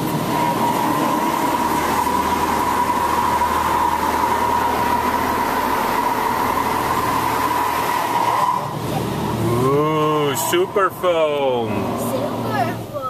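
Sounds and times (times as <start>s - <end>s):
car wash spray rushing: 0.0s - 13.0s
constant high whine: 0.0s - 13.0s
machine hum: 0.0s - 13.0s.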